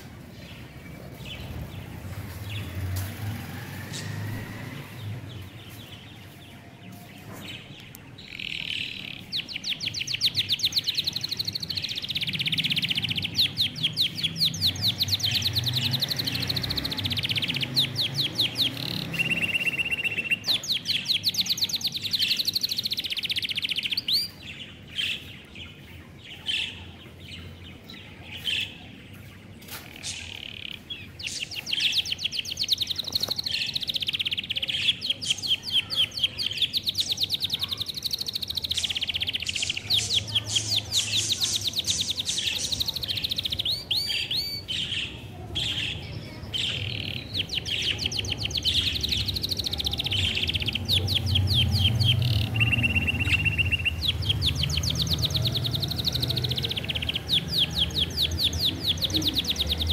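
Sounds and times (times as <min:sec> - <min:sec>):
budgerigars chirping and warbling: 0:04.0 - 0:59.9.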